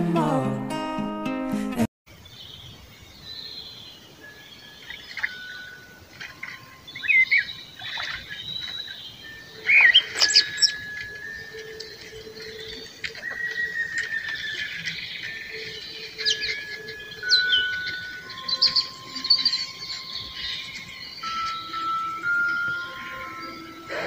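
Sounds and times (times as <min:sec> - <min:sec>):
birds chirping and whistling: 0:02.3 - 0:24.0.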